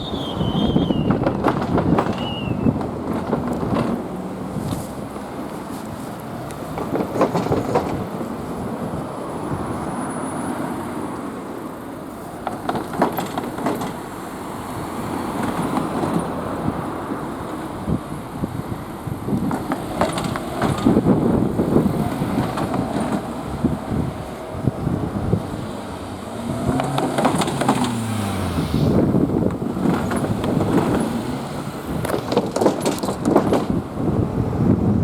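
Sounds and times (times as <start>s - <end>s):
train rolling rumble: 0.0s - 35.0s
wheels clacking over rail joints: 0.0s - 35.0s.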